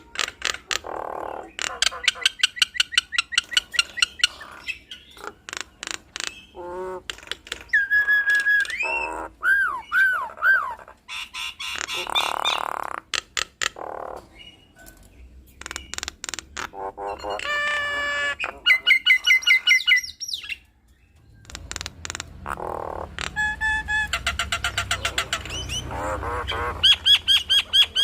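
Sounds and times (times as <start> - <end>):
myna bird singing: 0.0 - 28.0.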